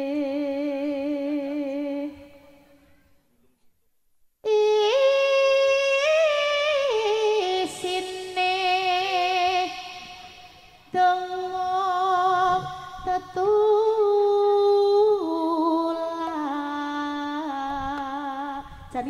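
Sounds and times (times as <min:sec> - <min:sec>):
woman singing into a microphone: 0:00.0 - 0:02.6, 0:04.4 - 0:19.0.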